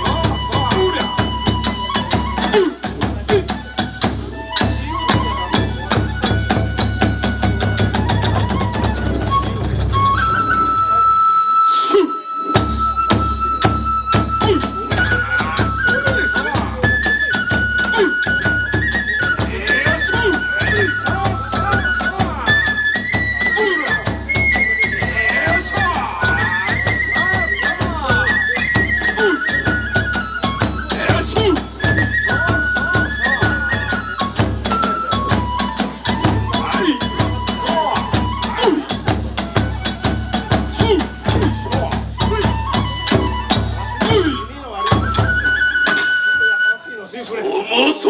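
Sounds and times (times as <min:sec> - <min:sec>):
drums beating: 0:00.0 - 0:11.0, 0:12.6 - 0:46.3
flute holding long notes: 0:00.0 - 0:47.2.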